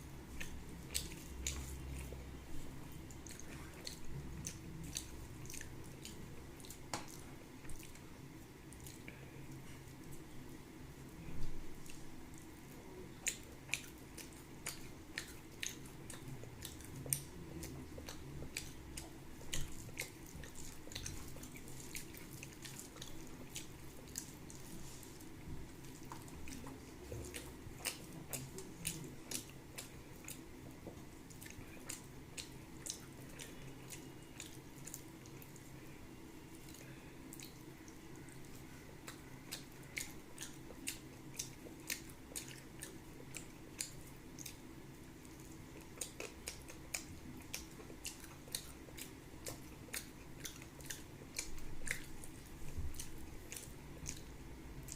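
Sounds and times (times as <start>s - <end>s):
low room hum: 0.0s - 54.9s
chewing mouth sounds: 0.3s - 8.1s, 11.8s - 54.9s.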